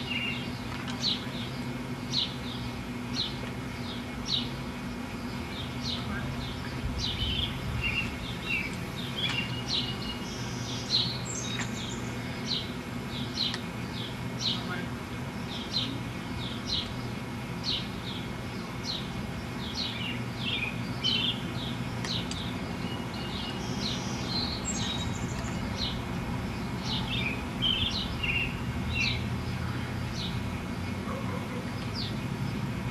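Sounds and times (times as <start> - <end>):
bird chirping: 0.0 - 14.8, 15.4 - 32.6
low background hum: 0.0 - 32.9.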